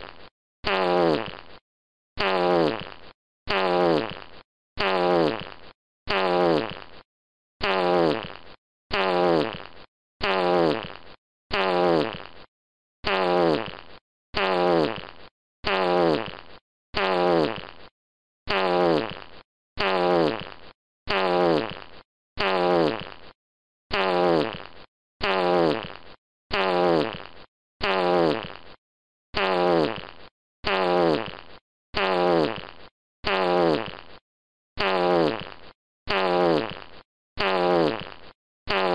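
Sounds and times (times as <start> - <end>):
fart sound effect: 0.0 - 1.6, 2.2 - 7.0, 7.6 - 17.9, 18.5 - 28.8, 29.4 - 34.2, 34.8 - 38.9.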